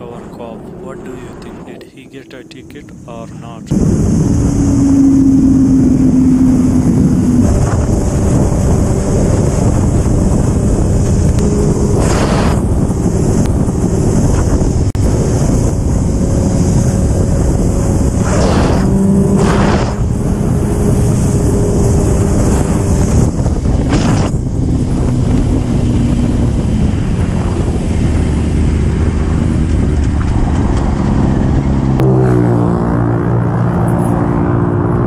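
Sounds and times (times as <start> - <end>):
wind rush over microphone: 0.0 - 35.0
motorcycle engine: 3.7 - 35.0.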